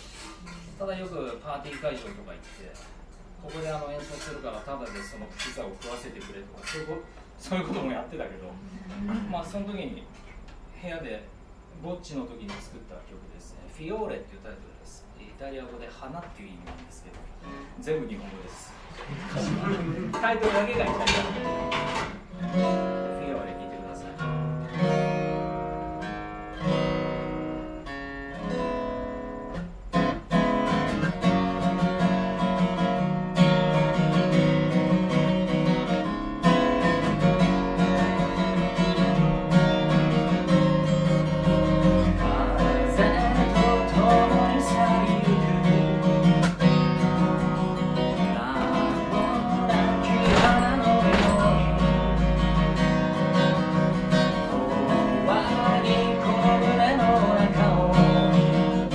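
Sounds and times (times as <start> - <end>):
acoustic guitar strumming: 0.0 - 9.6, 17.4 - 17.9, 18.8 - 58.9.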